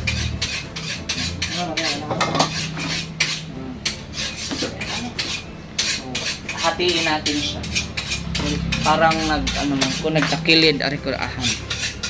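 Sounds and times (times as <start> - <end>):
knife chopping vegetables on board: 0.0 - 10.4.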